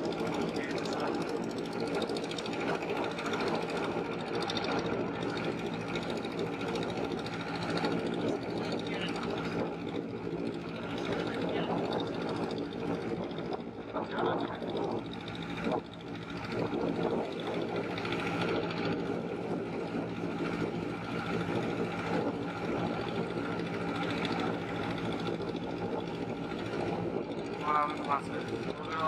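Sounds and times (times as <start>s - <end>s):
motorboat engine droning: 0.0s - 29.0s.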